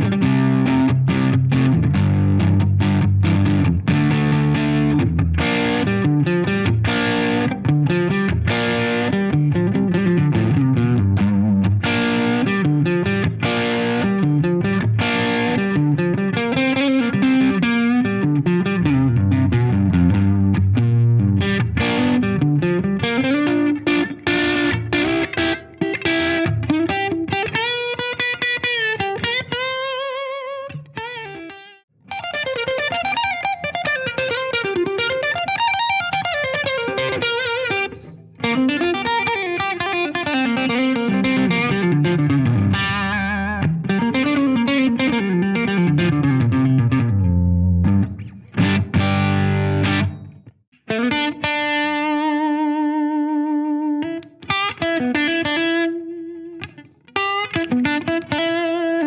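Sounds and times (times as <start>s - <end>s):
electric guitar solo: 0.0s - 59.0s.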